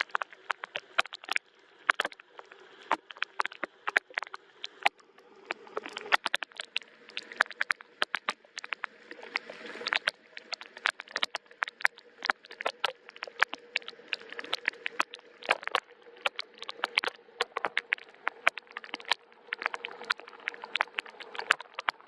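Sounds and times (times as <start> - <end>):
raindrops ticking: 0.0 - 22.0.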